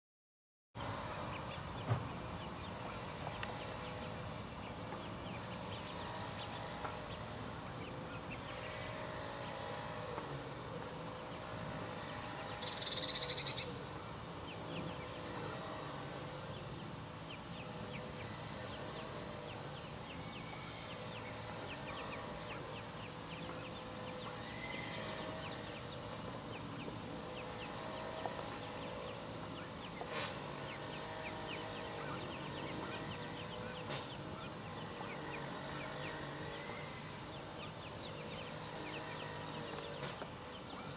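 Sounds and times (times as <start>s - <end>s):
ducklings peeping: 0.8s - 40.9s
low background hum: 0.8s - 40.9s.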